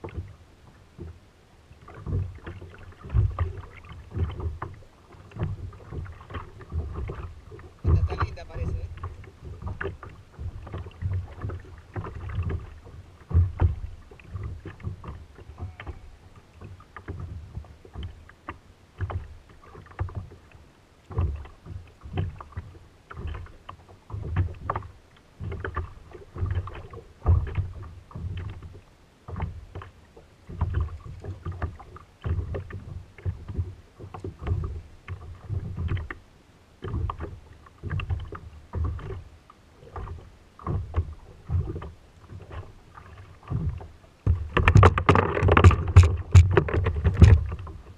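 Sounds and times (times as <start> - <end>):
waves slapping a kayak hull: 0.0 - 47.9.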